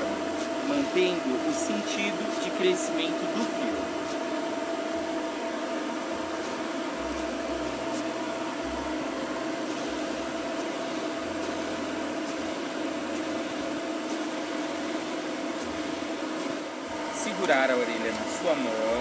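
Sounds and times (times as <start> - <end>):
pet blower dryer running: 0.0 - 19.0.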